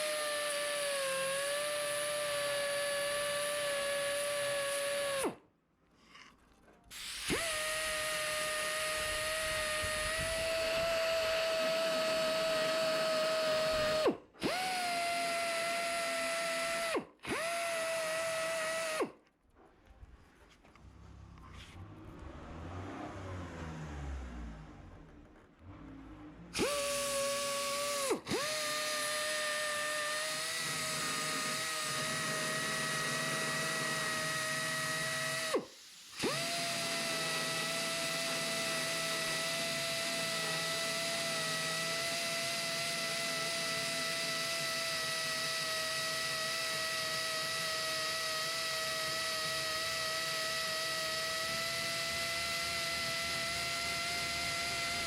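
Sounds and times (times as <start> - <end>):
rotary power tool whining: 0.0 - 5.4, 6.9 - 19.2, 26.5 - 55.0.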